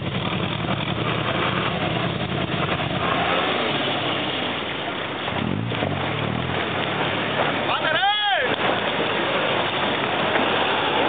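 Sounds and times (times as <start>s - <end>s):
off-road vehicle engine at low revs: 0.0s - 11.0s.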